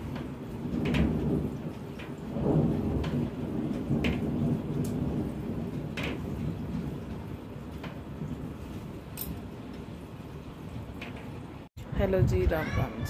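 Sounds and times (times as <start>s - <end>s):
rain: 0.0s - 11.7s
rolling thunder rumble: 0.0s - 13.0s.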